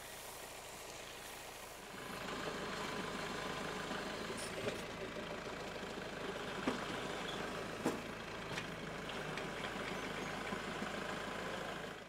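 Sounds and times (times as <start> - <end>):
tractor diesel engine idling: 1.8 - 12.0.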